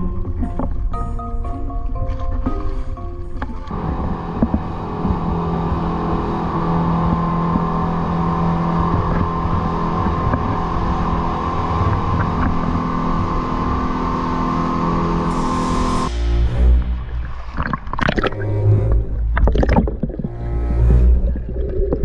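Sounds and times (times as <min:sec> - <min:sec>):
hull and wake rushing through water: 0:00.0 - 0:22.0
speedboat engines running: 0:00.0 - 0:22.0.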